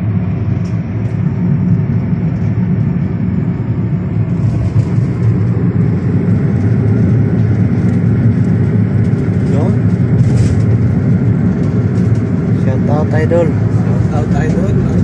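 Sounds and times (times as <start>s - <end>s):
car cabin road drone: 0.0s - 15.0s.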